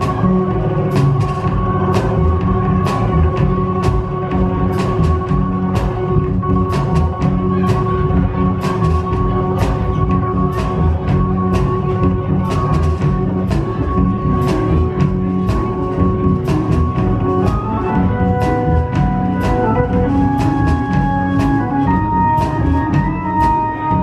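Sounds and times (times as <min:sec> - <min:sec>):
drum kit beat: 0:00.0 - 0:24.0
rock band playing: 0:00.0 - 0:24.0.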